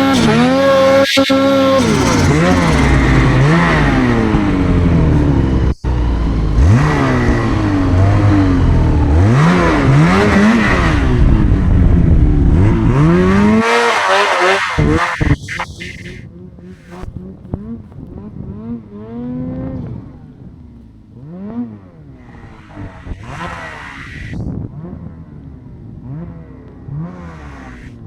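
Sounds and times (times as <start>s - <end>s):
snowmobile engine revving: 0.0s - 20.1s, 21.2s - 25.1s, 26.0s - 28.0s.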